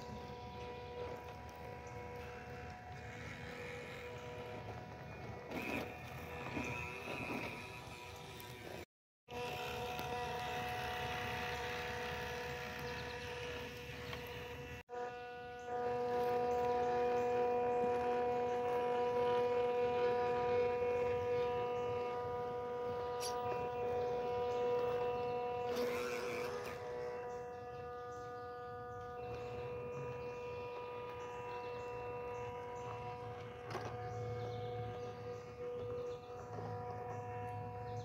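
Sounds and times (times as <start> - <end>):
small electric motor whining: 0.0 - 38.0.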